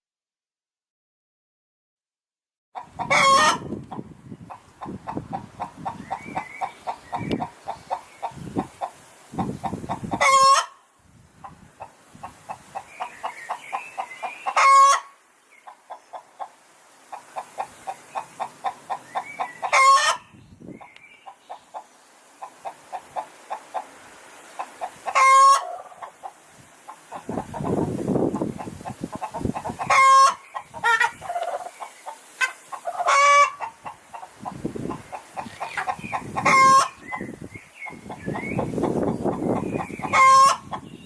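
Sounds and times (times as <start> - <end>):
hen cackling and squawking: 2.8 - 10.8, 11.4 - 41.0.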